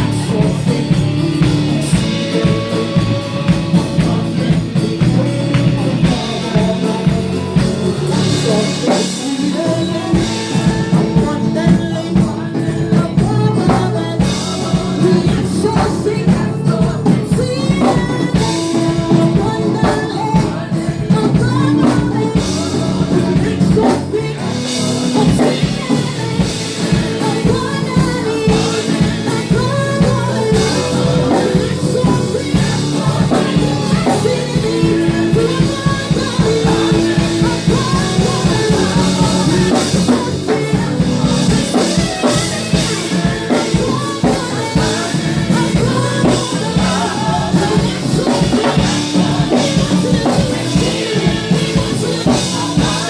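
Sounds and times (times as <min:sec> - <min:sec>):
gospel band with drum kit: 0:00.0 - 0:53.0
voices singing: 0:00.0 - 0:53.0.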